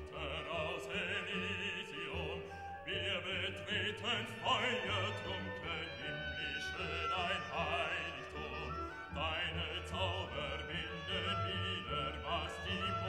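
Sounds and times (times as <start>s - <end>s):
operatic voice singing: 0.0s - 13.0s
orchestral accompaniment: 0.0s - 13.0s.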